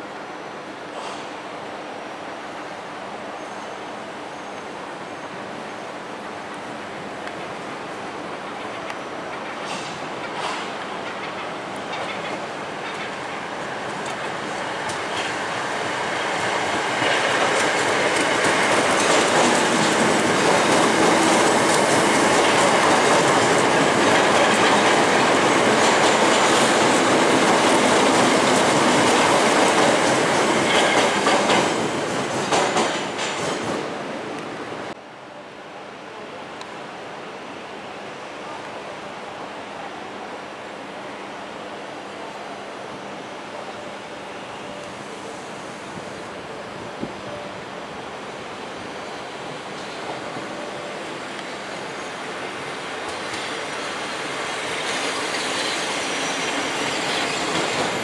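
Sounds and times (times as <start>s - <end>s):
electric train passing: 0.0s - 58.0s.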